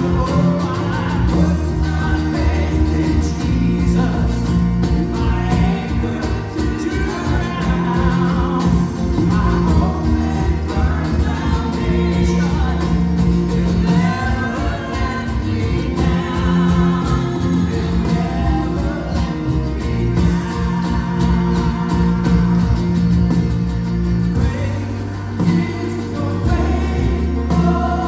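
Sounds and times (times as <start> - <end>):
instrumental accompaniment: 0.0 - 28.0
voices singing gospel song: 0.0 - 28.0.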